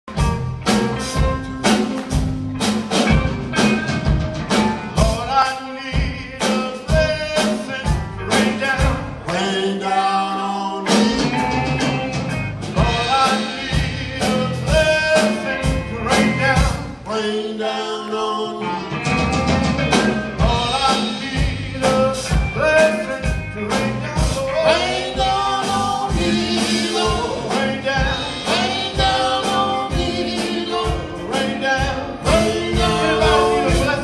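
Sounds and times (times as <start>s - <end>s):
drum kit beat: 0.0s - 10.1s, 10.8s - 17.1s, 18.6s - 34.0s
electric guitars: 0.1s - 34.0s
man singing into a microphone: 5.0s - 18.8s, 20.3s - 34.0s.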